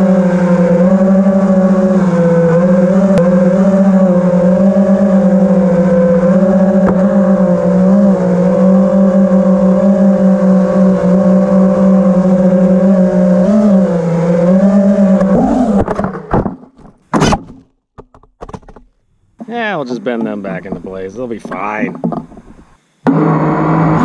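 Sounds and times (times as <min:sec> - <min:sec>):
drone propellers whining: 0:00.0 - 0:16.8, 0:19.7 - 0:24.0
drone clattering knocks: 0:00.0 - 0:17.4, 0:20.1 - 0:22.7.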